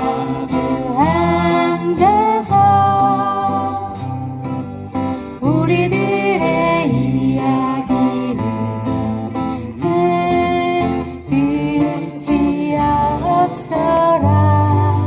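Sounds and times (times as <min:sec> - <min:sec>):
acoustic guitars strummed: 0:00.0 - 0:15.0
person singing folk song: 0:00.0 - 0:15.0.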